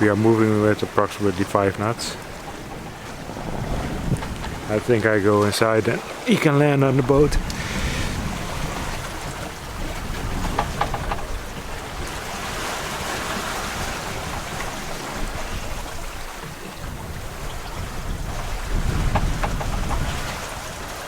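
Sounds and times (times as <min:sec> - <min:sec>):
water rushing along hull: 0:00.0 - 0:21.0
wind rumbling on microphone: 0:00.0 - 0:21.0.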